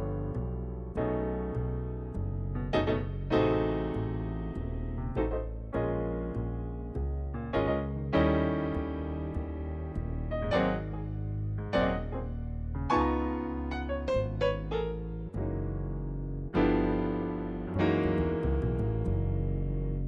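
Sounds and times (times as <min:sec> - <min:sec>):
electric piano chords: 0:00.0 - 0:20.0.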